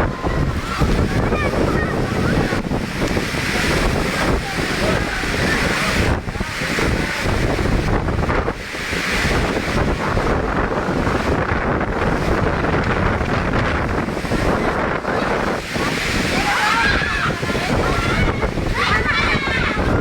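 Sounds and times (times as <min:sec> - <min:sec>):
gusting wind on microphone: 0:00.0 - 0:20.0.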